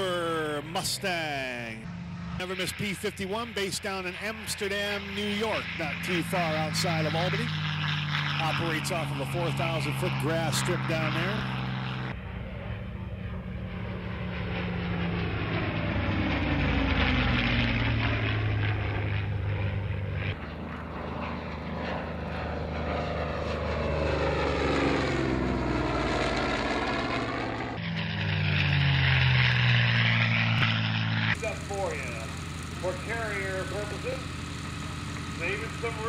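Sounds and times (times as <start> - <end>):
propeller plane engines flying by: 0.0 - 36.0.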